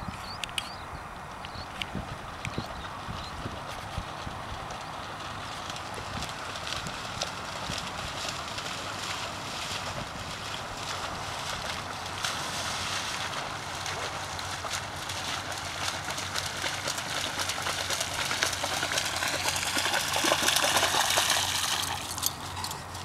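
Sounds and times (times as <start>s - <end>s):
dog splashing through water: 4.1s - 23.0s.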